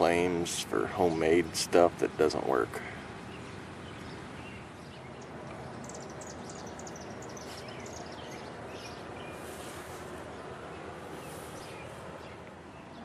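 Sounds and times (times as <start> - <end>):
birds chirping: 0.0 - 13.0
steady background hiss: 0.0 - 13.0.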